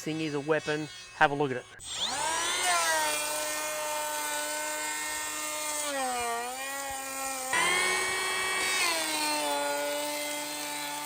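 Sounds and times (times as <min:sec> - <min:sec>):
electric planer whining: 0:00.0 - 0:11.0.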